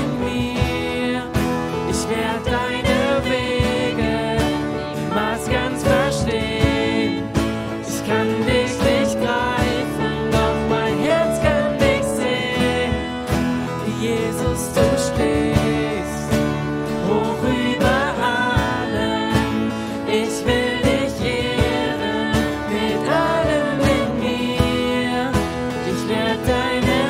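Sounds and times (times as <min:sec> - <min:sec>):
acoustic guitar strumming: 0:00.0 - 0:27.0
man singing a worship song: 0:00.0 - 0:27.0.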